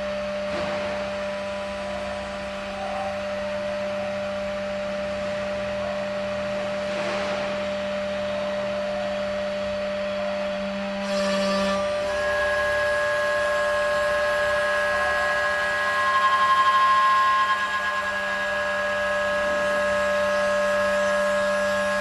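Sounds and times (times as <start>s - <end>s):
drilling machine spindle motors whining: 0.0s - 22.0s.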